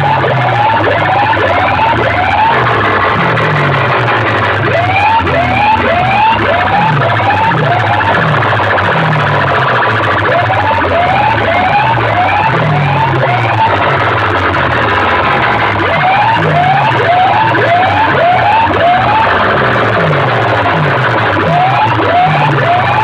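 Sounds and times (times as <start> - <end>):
deep sliding bass notes: 0.0 - 23.0
electronic siren sweeps: 0.0 - 23.0.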